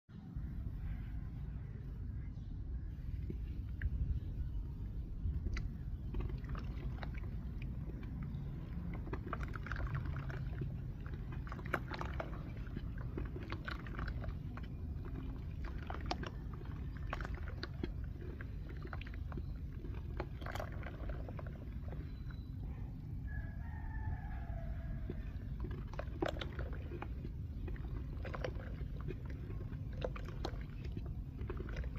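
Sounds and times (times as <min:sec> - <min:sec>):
steady low rumble: 0:00.1 - 0:31.9
dry clay crunching and crackling: 0:03.0 - 0:22.7, 0:23.3 - 0:31.9.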